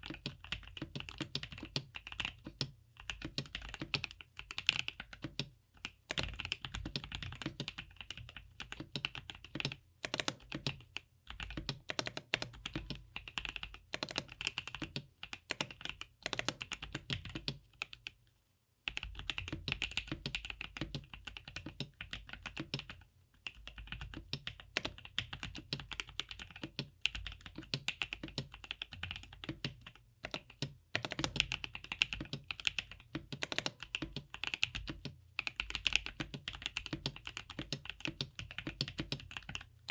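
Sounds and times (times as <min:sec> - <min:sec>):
mechanical keyboard typing: 0:00.0 - 0:18.2, 0:18.9 - 0:39.9.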